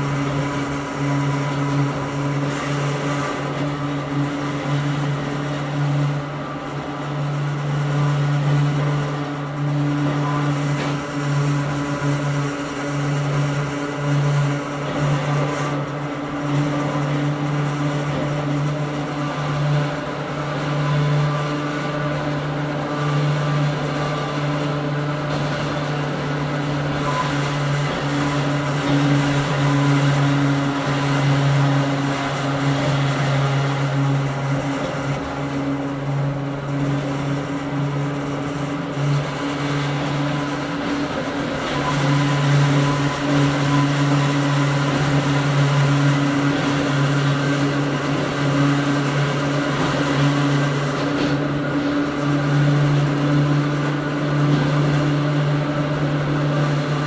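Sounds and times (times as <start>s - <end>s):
wheel and rail noise: 0.0s - 57.0s.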